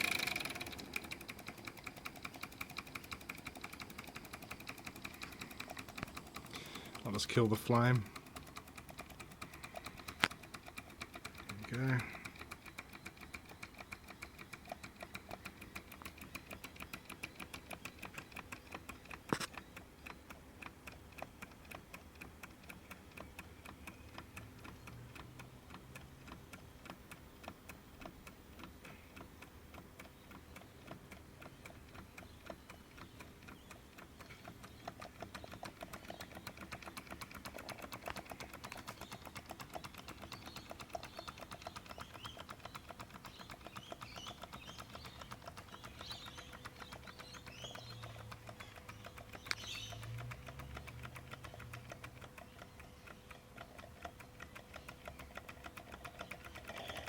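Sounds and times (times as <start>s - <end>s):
miniature steam engine ticking: 0.0s - 57.0s
sharp click: 0.0s - 57.0s.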